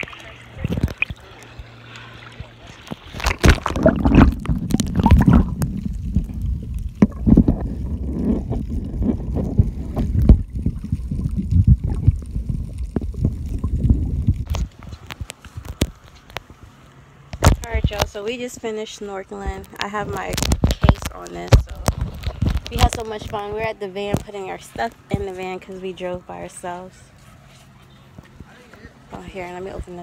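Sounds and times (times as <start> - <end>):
muffled underwater water rumbling: 0.0 - 16.7, 17.3 - 18.3, 19.3 - 26.2.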